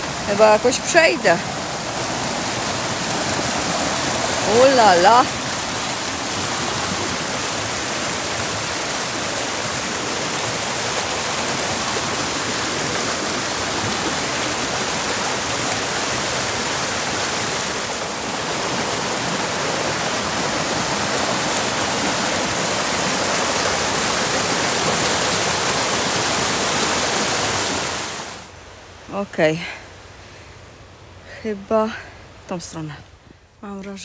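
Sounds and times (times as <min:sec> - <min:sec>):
stream rushing over boulders: 0:00.0 - 0:34.0.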